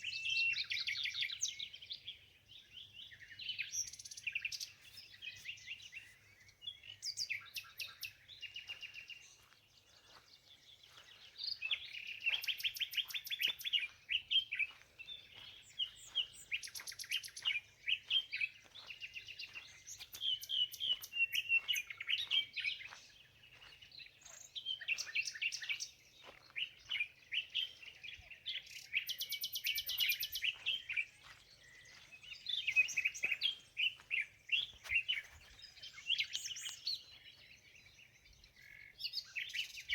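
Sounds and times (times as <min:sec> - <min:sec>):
songbirds singing and trilling: 0:00.0 - 0:39.9.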